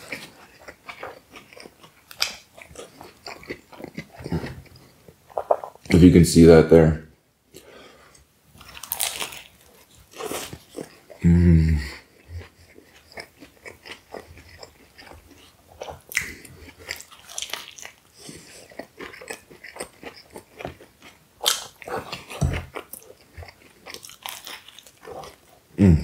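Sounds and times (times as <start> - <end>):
chewing crunchy food: 0.0 - 6.0, 7.5 - 25.8.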